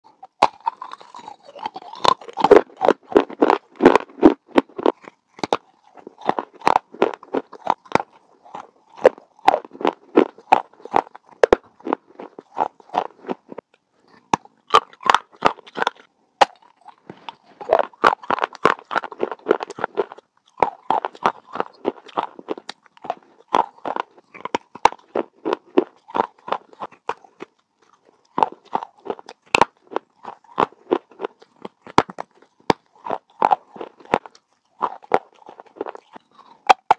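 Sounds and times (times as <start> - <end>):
crunching of clay being chewed: 0.1 - 36.9.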